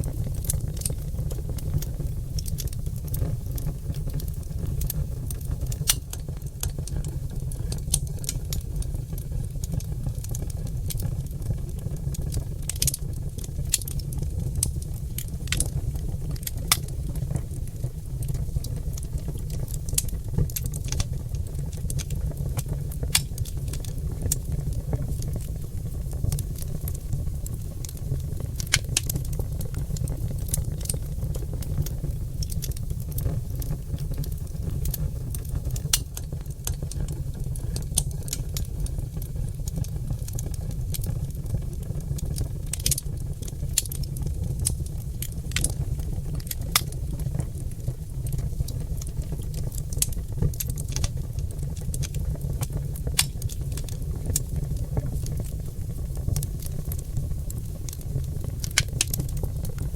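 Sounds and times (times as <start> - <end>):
logs crackling and popping: 0.0 - 59.9
low fire rumble: 0.0 - 59.9.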